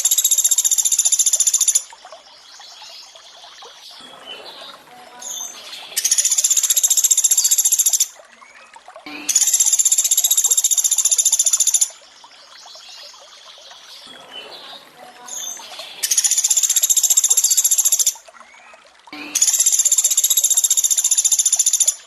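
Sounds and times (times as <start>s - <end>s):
trickling water: 0.0s - 22.0s.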